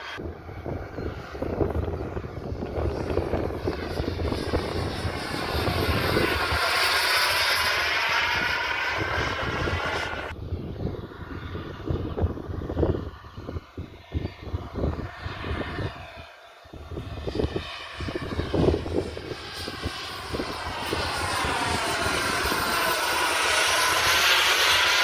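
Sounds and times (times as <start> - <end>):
propeller airplane engine droning: 0.0 - 25.0.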